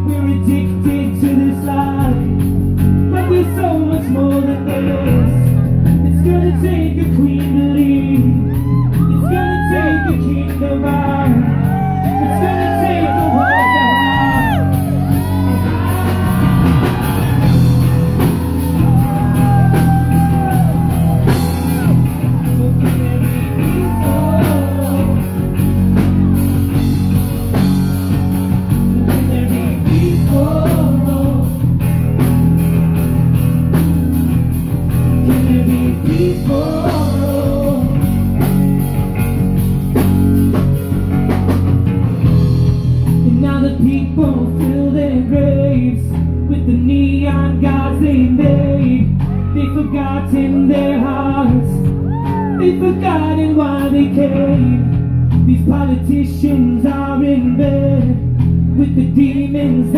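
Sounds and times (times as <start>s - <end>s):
drums and bass beat: 0.0s - 59.9s
guitar: 0.0s - 59.9s.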